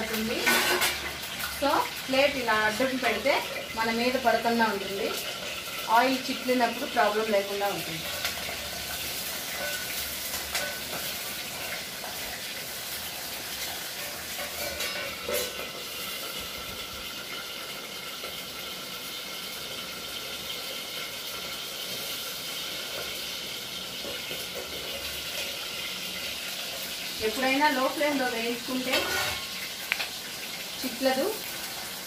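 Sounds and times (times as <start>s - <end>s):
chillies sizzling in oil: 0.0s - 32.0s.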